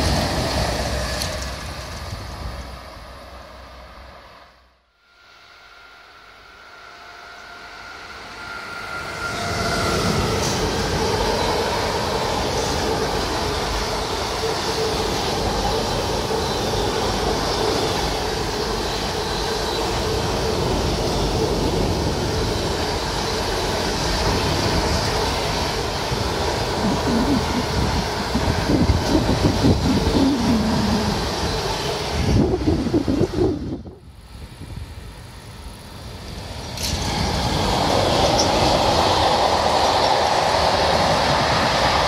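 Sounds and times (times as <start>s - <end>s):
freight train rumble and clatter: 0.0s - 4.7s, 7.5s - 42.0s
locomotive whine: 0.0s - 42.0s.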